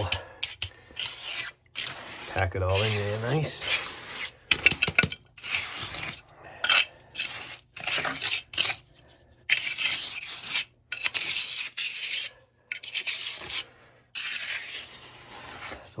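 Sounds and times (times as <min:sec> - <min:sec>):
trowel scraping wet concrete: 0:00.0 - 0:16.0.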